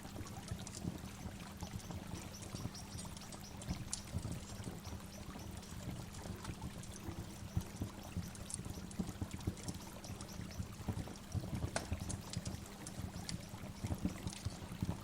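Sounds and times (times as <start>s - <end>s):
small water splashes: 0.0s - 15.0s.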